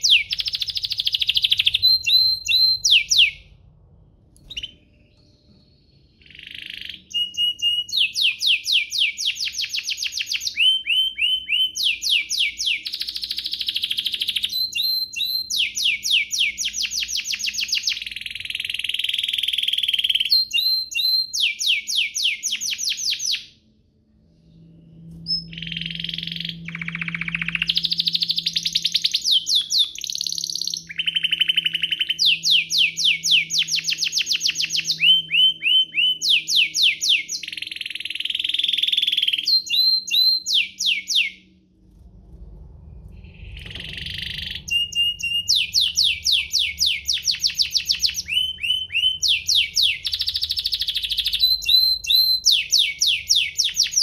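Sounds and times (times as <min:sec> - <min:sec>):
canary trilling song: 0:00.0 - 0:03.6, 0:04.3 - 0:23.7, 0:24.4 - 0:41.5, 0:43.2 - 0:54.0.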